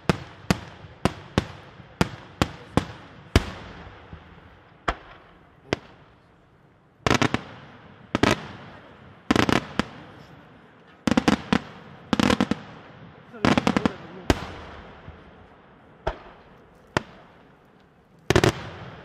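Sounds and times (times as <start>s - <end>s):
fireworks bangs: 0.0s - 6.4s, 7.0s - 19.0s
fireworks crackling: 0.0s - 19.0s.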